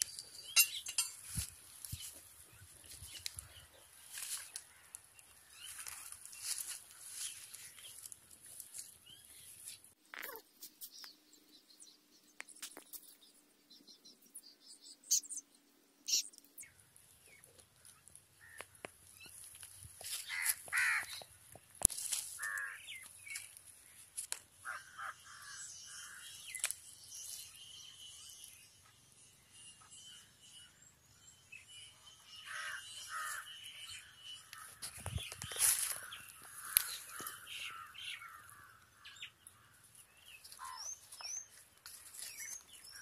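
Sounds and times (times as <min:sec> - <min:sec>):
birds calling: 0:00.0 - 0:11.1, 0:14.9 - 0:28.8, 0:29.5 - 0:43.0.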